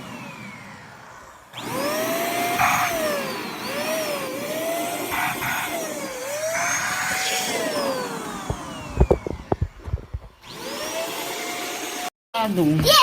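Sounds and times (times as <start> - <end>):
handheld vacuum cleaner whining: 0.0 - 12.1.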